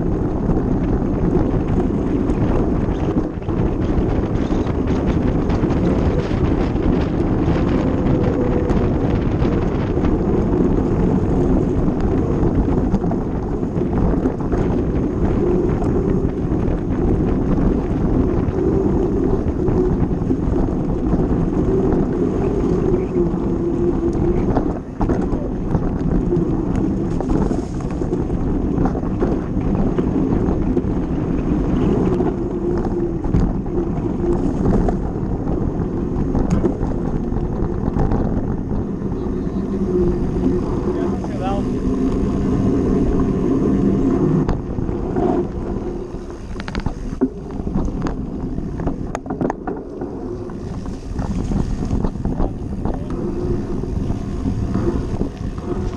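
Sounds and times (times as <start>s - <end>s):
bike tyres rumbling on gravel: 0.0s - 55.9s
wind buffeting microphone: 0.0s - 55.9s.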